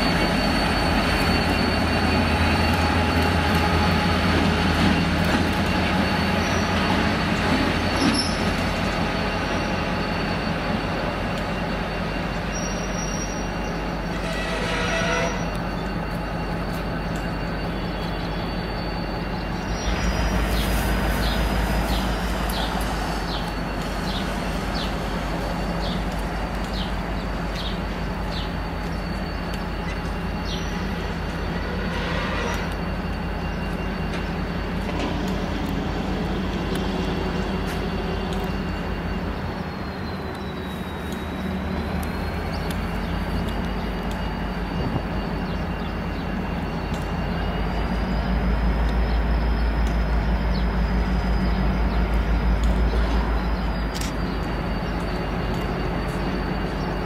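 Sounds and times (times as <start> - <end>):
locomotive engine running: 0.0 - 57.0
wheels squealing on rails: 0.0 - 57.0.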